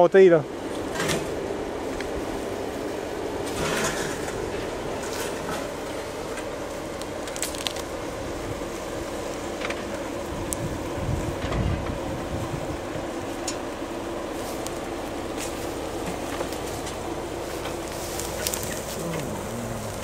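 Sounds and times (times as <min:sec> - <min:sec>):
engine running at low speed: 0:00.0 - 0:20.0
rocks and brush crackling under tyres: 0:00.6 - 0:20.0.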